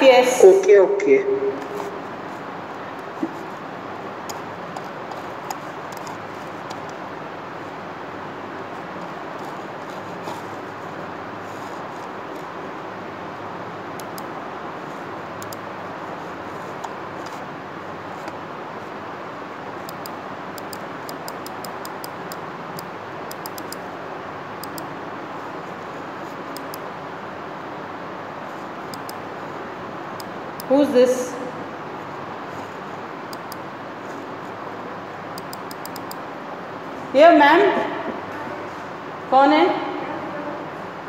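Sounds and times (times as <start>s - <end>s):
room noise hiss: 0.0s - 41.0s.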